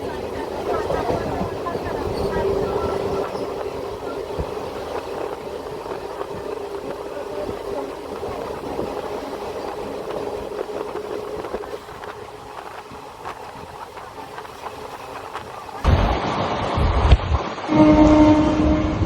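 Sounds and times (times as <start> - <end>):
train rumble on track: 0.0 - 19.0.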